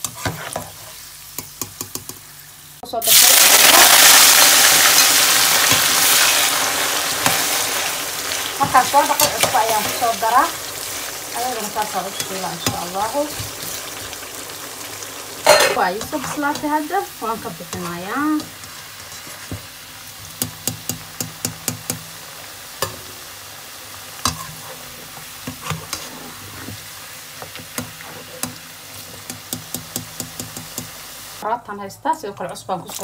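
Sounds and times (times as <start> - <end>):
potato sticks sizzling in oil: 0.0 - 31.4.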